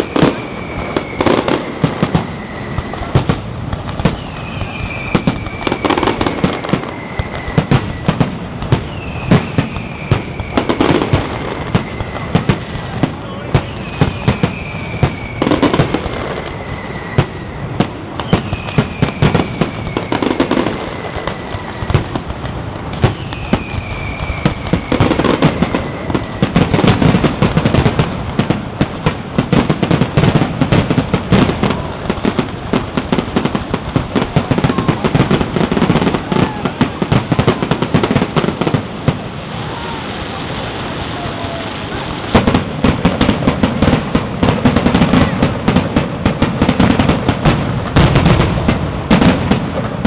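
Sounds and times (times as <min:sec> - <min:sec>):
descending firework whistles: 0:00.0 - 0:50.0
fireworks bangs and crackles: 0:00.0 - 0:50.0.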